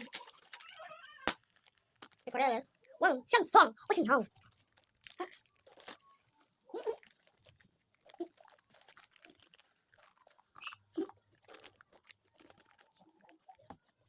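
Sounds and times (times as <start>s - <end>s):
person chewing crunchy food: 0.0s - 2.3s, 4.3s - 14.0s.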